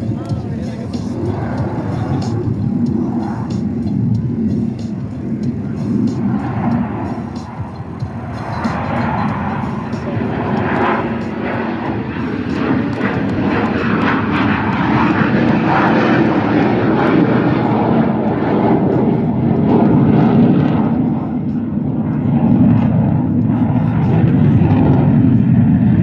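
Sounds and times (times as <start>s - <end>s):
jet aircraft roaring overhead: 0.0s - 26.0s.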